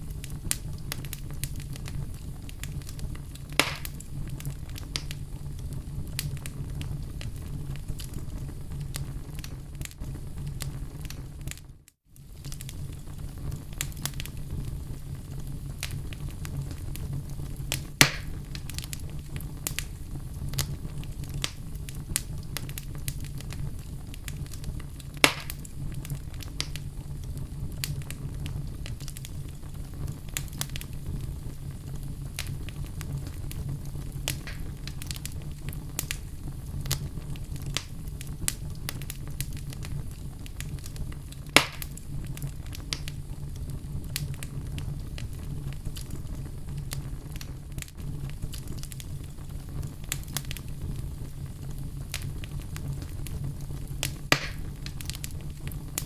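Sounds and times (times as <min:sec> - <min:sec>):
fire crackling: 0:00.0 - 0:56.0
fire flames rumbling: 0:00.0 - 0:56.0
loud fire pops: 0:00.0 - 0:56.0.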